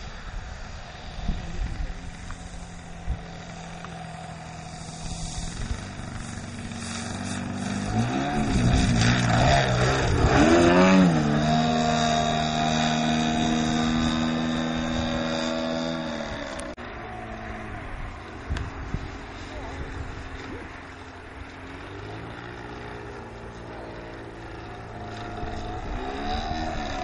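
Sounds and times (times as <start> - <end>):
model plane engine and propeller: 0.0 - 27.0.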